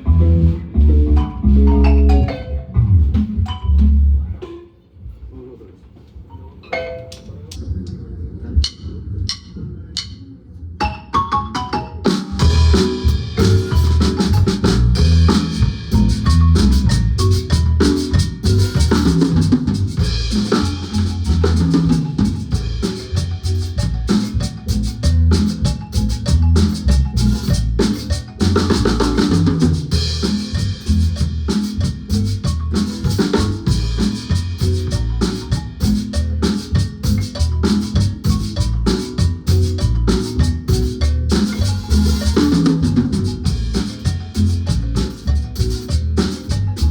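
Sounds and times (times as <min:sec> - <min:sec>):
low bass notes: 0:00.0 - 0:04.4, 0:12.4 - 0:46.9
drum kit: 0:00.0 - 0:04.6, 0:10.8 - 0:46.9
marimba notes: 0:00.0 - 0:04.8, 0:06.3 - 0:07.8, 0:08.6 - 0:46.9.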